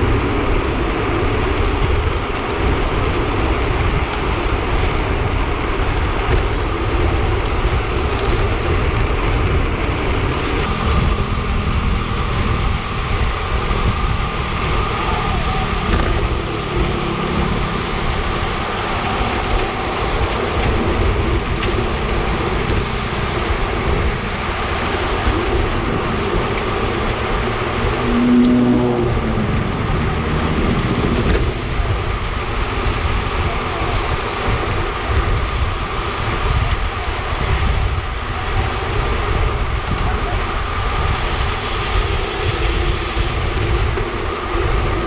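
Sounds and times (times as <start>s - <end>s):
bike tyres humming on tarmac: 0.0s - 45.0s
wind rushing over microphone: 0.0s - 45.0s.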